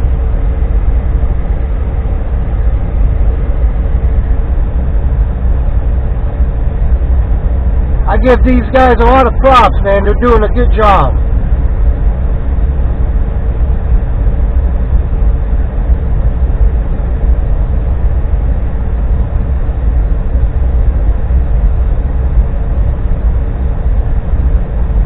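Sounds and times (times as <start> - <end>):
faint steady hum: 0.0 - 25.0
low engine rumble: 0.0 - 25.0.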